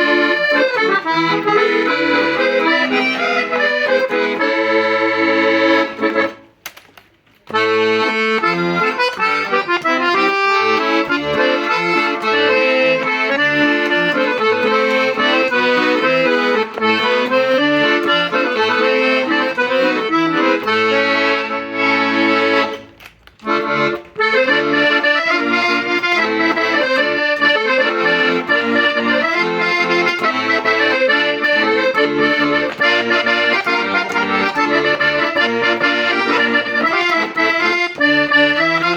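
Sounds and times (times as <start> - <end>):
accordion playing: 0.0 - 6.8, 7.4 - 38.9.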